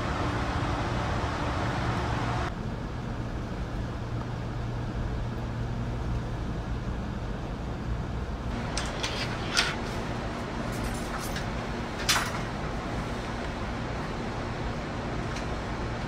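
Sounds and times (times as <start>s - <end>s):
train car low hum: 0.0s - 16.0s.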